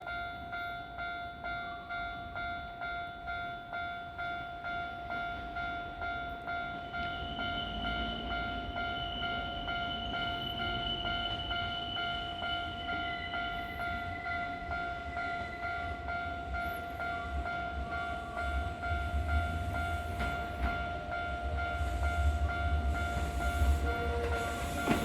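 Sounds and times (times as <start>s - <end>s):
level crossing bell clanging: 0.1s - 25.0s.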